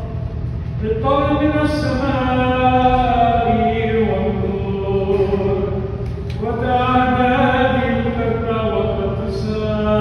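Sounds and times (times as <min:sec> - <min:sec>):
liturgical chant: 0:00.8 - 0:10.0.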